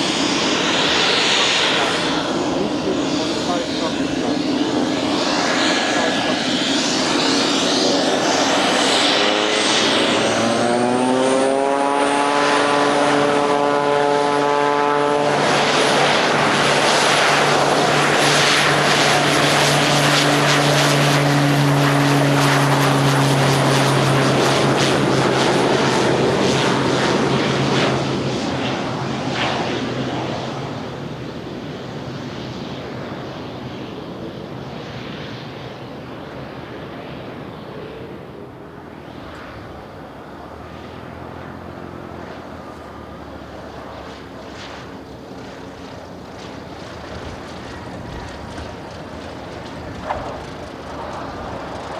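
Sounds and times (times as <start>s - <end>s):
turboprop plane taking off: 0.0s - 51.9s.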